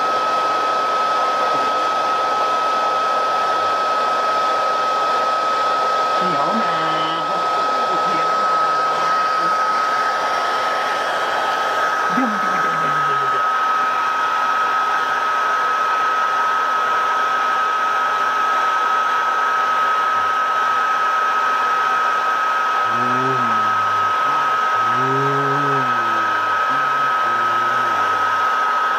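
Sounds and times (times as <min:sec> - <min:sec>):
electric appliance whirring: 0:00.0 - 0:28.9.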